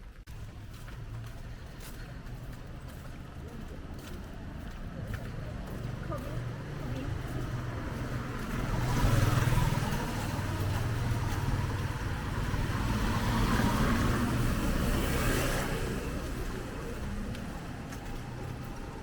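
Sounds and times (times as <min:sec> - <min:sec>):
low engine hum: 0:00.0 - 0:19.0
vehicles passing close by: 0:00.0 - 0:19.0.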